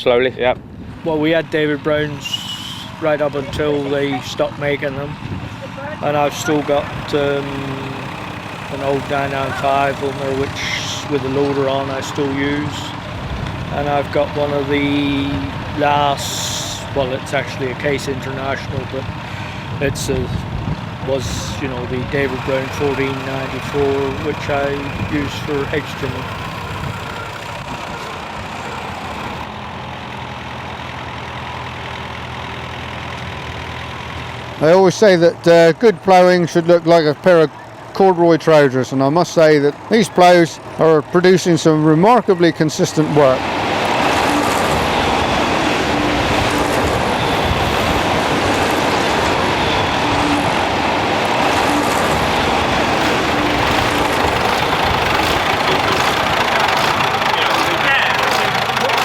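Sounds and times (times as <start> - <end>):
tractor engine hum: 0.0 - 59.0.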